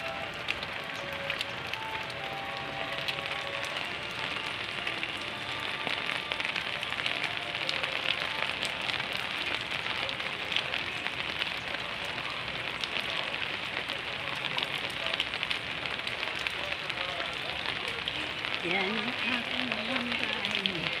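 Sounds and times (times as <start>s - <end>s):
rain on foliage: 0.0s - 21.0s.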